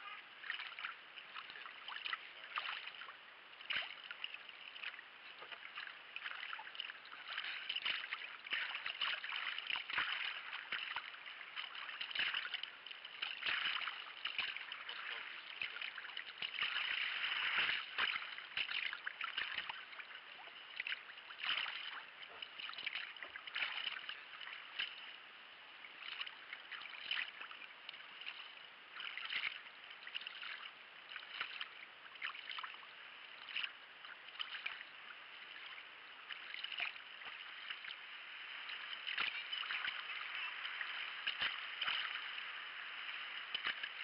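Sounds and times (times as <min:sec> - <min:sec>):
paddle splashing in water: 0:00.0 - 0:25.2, 0:26.0 - 0:32.8, 0:33.4 - 0:44.0
water washing along hull: 0:00.0 - 0:32.8, 0:33.4 - 0:44.0.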